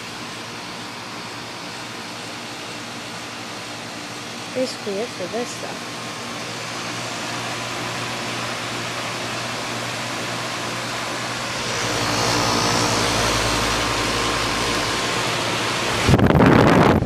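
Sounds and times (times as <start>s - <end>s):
condenser fan air rushing: 0.0s - 17.0s.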